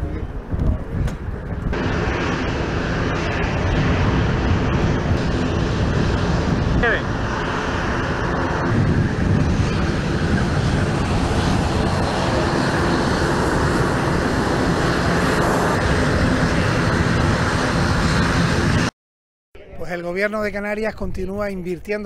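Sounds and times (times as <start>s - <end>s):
aircraft engine drone: 0.0s - 18.9s
low hum: 1.2s - 18.9s.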